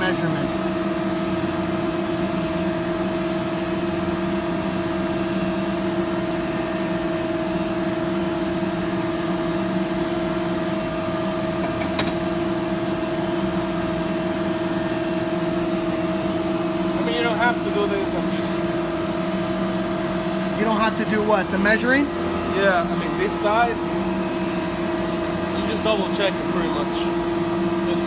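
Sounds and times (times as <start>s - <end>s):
shop machinery humming: 0.0s - 28.0s.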